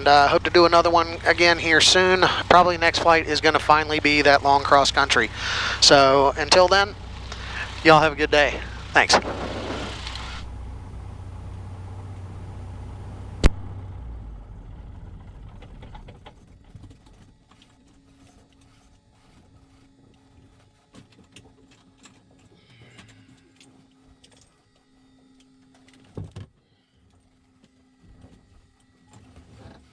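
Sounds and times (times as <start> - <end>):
plane engine winding down: 0.0 - 29.9.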